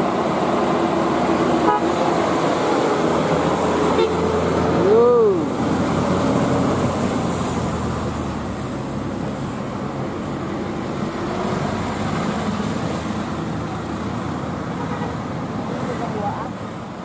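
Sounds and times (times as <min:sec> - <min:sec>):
diesel truck engine under load: 0:00.0 - 0:15.7
road traffic: 0:00.0 - 0:17.0.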